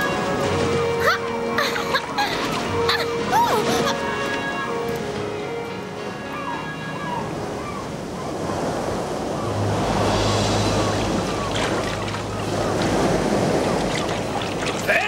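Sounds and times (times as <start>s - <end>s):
waves surging and rushing: 0.0s - 15.0s.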